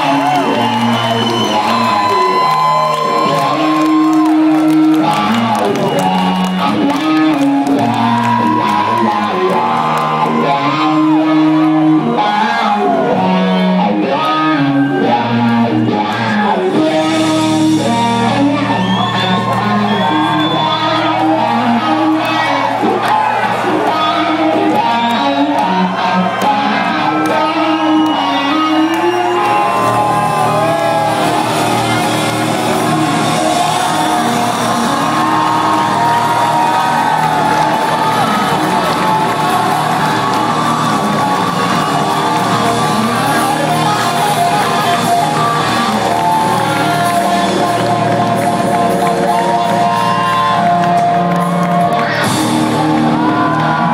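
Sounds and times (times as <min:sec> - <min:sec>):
crowd shouting and whooping: 0:00.0 - 0:53.9
electric guitar bending lead notes: 0:00.0 - 0:53.9
live rock band playing: 0:00.0 - 0:53.9.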